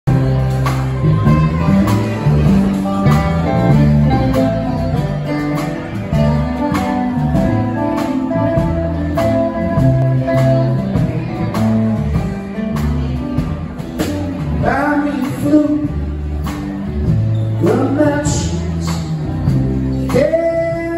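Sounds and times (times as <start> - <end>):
drum kit beat: 0.0 - 20.9
electric bass: 0.0 - 20.9
electric guitar: 0.1 - 20.9
person singing: 0.1 - 20.9.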